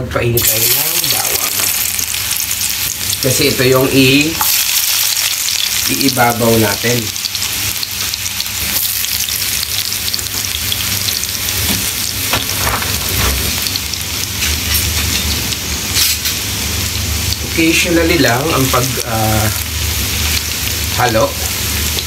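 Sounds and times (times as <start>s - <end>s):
garlic sizzling in hot oil: 0.4s - 22.0s.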